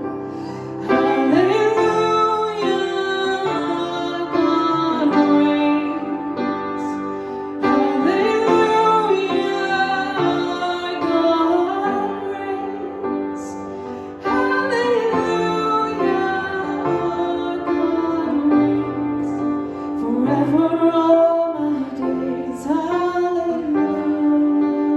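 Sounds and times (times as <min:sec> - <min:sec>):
woman singing slow song: 0:00.4 - 0:24.9.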